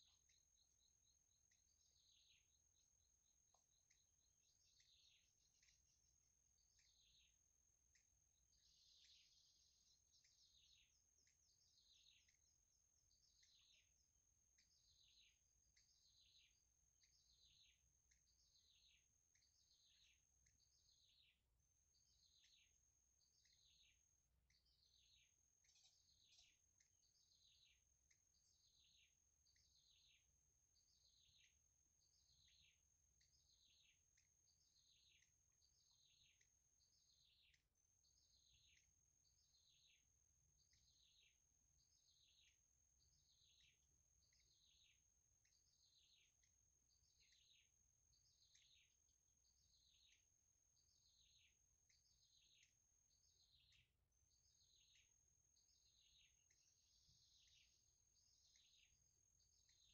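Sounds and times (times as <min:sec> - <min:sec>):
faint bird chirp: 0:00.0 - 0:59.9.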